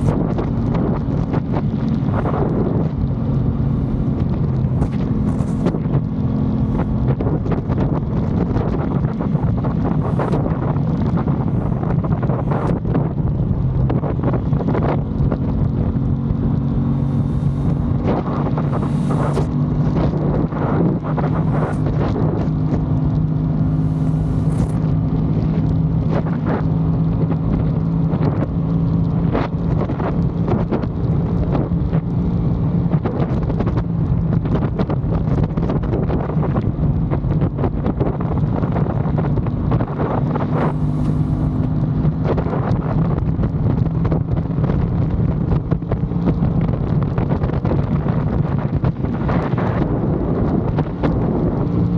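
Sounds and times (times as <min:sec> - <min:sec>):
motorcycle engine running: 0:00.0 - 0:51.9
wind buffeting on microphone: 0:00.0 - 0:51.9.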